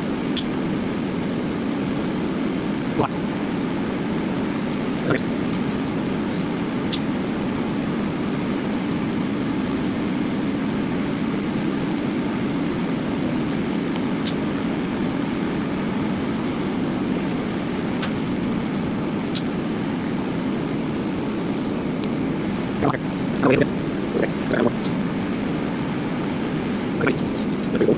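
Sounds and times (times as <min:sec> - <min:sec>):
steady rushing drone: 0:00.0 - 0:27.9.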